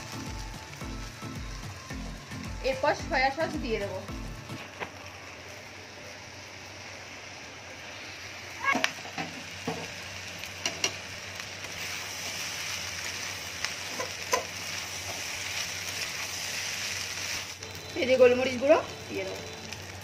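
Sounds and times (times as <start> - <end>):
pasta and vegetables sizzling: 0.0 - 20.0.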